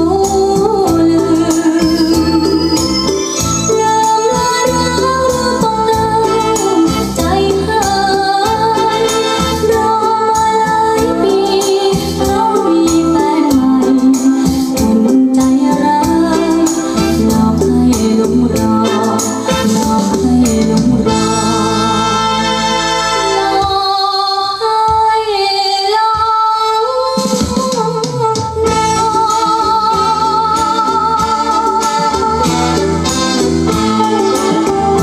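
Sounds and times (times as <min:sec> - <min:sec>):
music with percussion and bass: 0:00.0 - 0:24.3, 0:27.1 - 0:35.0.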